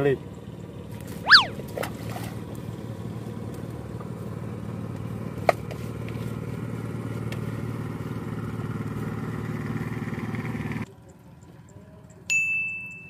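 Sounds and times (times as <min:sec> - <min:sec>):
motorboat engine running: 0:00.2 - 0:10.8.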